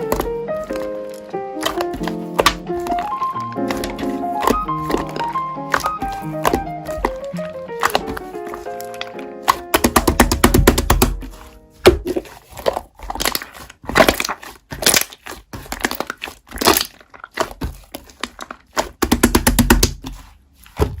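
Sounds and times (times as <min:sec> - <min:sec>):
slime crackling and popping: 0:00.0 - 0:21.0.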